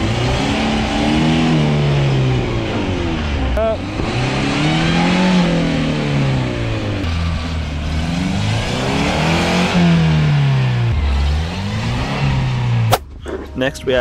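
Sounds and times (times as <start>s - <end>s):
truck engine revving: 0.0s - 13.5s.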